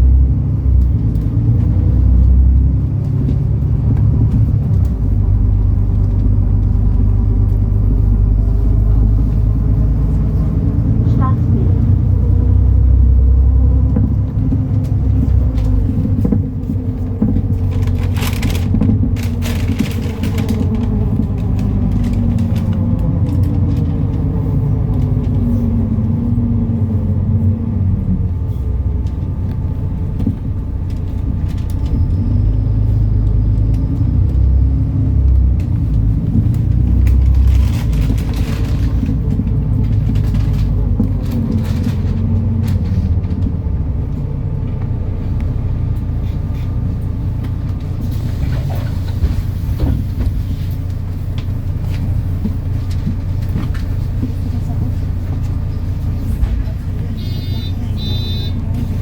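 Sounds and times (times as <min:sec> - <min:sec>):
bus diesel engine rumbling: 0:00.0 - 0:59.0.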